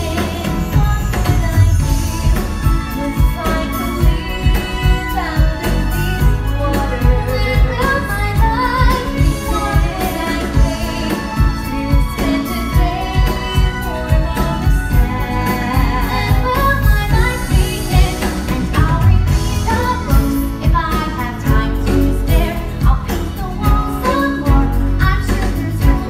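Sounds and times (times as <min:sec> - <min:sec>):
band with steady beat: 0:00.0 - 0:26.0
woman singing show tune: 0:00.0 - 0:26.0.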